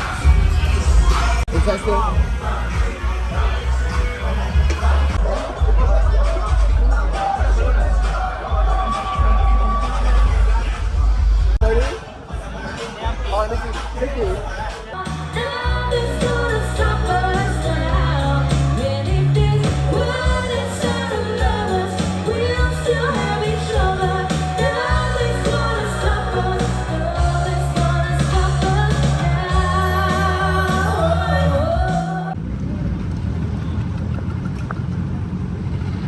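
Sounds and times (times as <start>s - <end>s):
steady bass line: 0.0s - 12.0s, 13.1s - 32.4s
pop song vocals: 0.0s - 32.4s.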